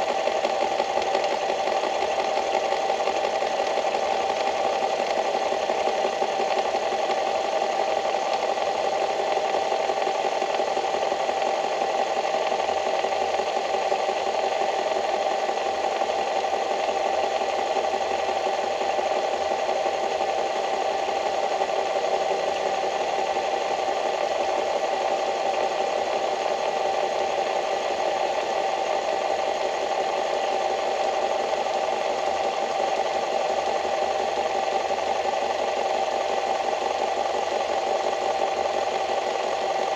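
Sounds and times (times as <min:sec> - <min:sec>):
small machine running with rattle: 0:00.0 - 0:39.9.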